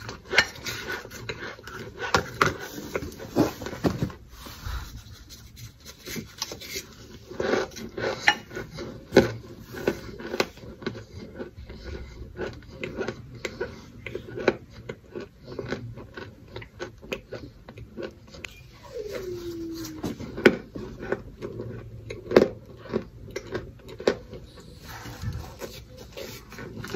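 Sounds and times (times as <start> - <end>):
crunching and chewing snacks: 0.0 - 4.2, 6.0 - 26.9.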